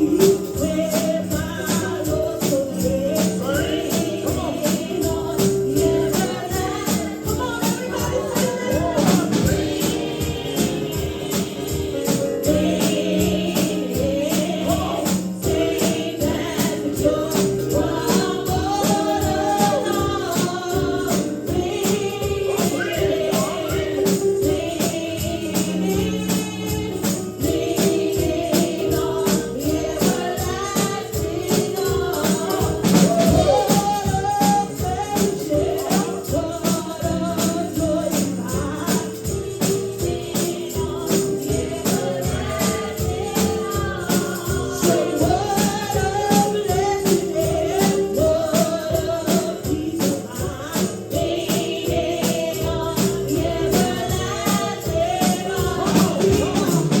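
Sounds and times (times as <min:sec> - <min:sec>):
gospel worship music: 0:00.0 - 0:57.0
tambourine shaken in rhythm: 0:00.0 - 0:57.0
voices singing: 0:00.0 - 0:57.0.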